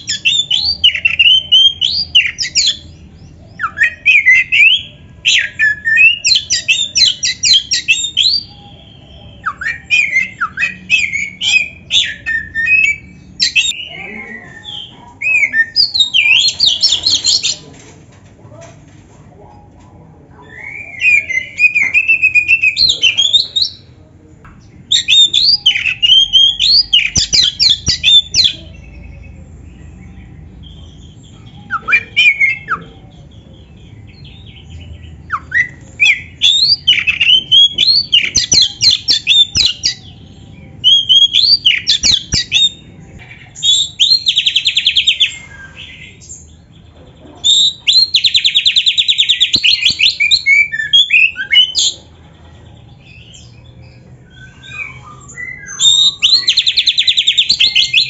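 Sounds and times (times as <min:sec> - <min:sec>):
bird singing whistles and trills: 0:00.0 - 0:17.6, 0:20.4 - 0:23.8, 0:24.9 - 0:29.4, 0:30.6 - 0:33.3, 0:34.1 - 0:42.9, 0:43.6 - 0:46.5, 0:47.4 - 0:52.0, 0:53.0 - 0:58.0.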